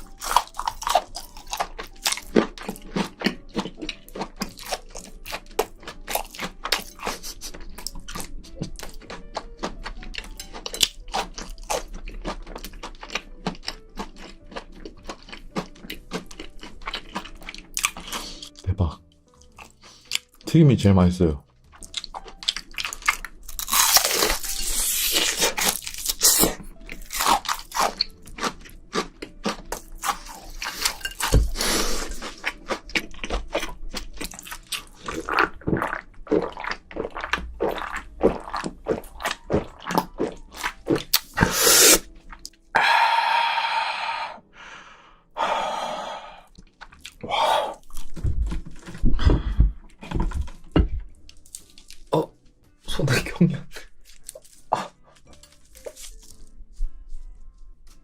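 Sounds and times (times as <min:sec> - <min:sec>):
crunching and chewing fried food: 0:00.0 - 0:20.5, 0:21.5 - 0:43.0, 0:46.5 - 0:58.0.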